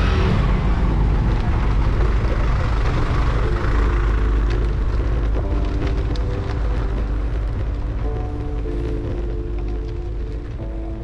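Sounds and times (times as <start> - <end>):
busy road traffic: 0.0 - 10.9.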